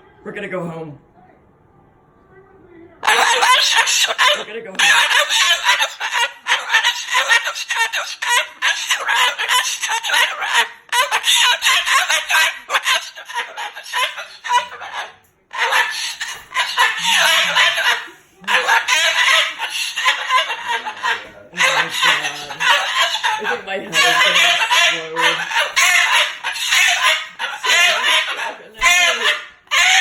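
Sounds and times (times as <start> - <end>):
cockatoo squawking and chattering: 3.0 - 30.0.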